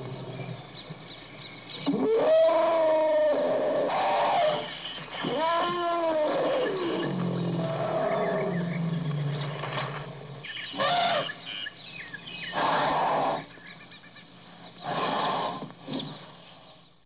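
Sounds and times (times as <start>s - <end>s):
elephant low rumble: 0.0s - 11.4s, 14.4s - 16.9s
elephants calling: 1.8s - 14.0s, 14.7s - 16.4s.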